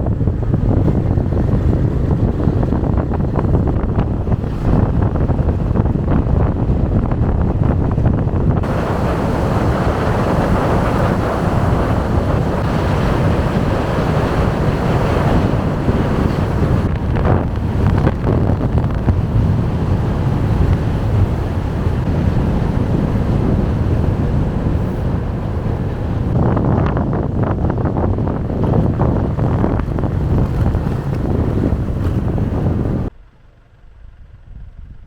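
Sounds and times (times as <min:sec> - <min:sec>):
wind buffeting microphone: 0:00.0 - 0:33.1, 0:33.7 - 0:35.0.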